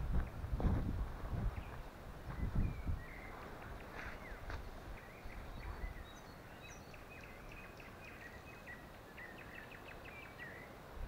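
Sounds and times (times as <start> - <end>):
songbirds chirping and whistling: 1.4 - 11.0.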